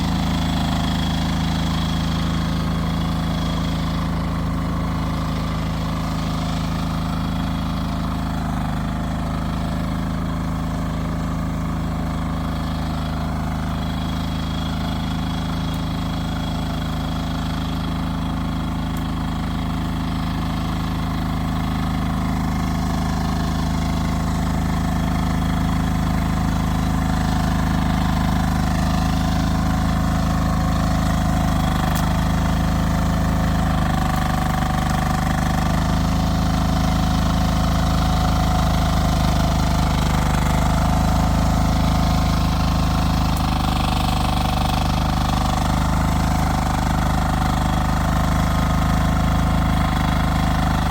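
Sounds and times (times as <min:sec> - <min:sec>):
excavator engine running: 0:00.0 - 0:50.9.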